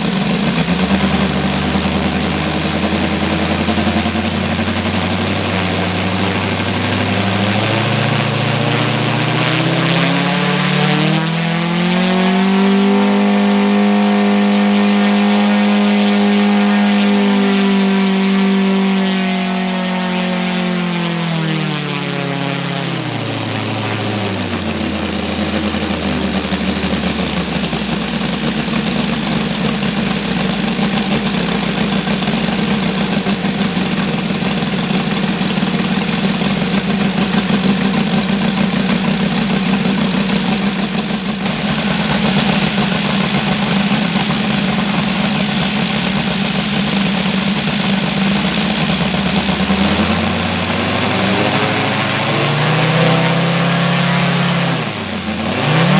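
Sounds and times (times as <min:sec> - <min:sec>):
model aircraft engine: 0:00.0 - 0:55.9.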